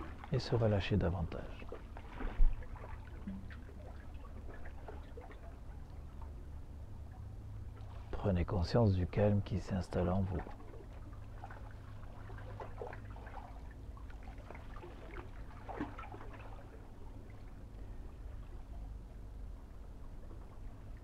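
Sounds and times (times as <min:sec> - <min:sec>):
small waves lapping: 0:00.0 - 0:21.0
steady low hum: 0:00.0 - 0:21.0.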